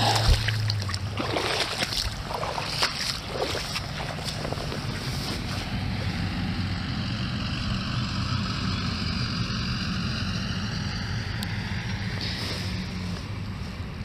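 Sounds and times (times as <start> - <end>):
pickup truck driving past: 0.0 - 14.0.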